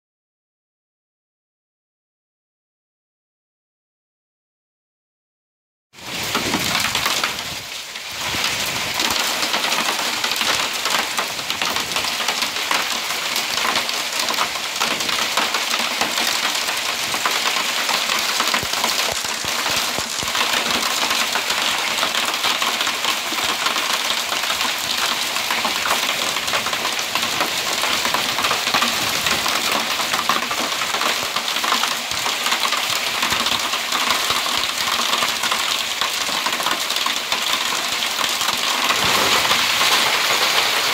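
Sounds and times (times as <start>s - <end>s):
rain and hail on a tiled roof: 6.0s - 40.9s.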